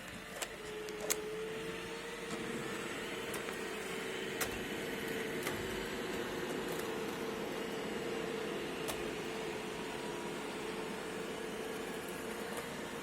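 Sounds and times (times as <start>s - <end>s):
robot vacuum motor humming: 0.0s - 13.0s.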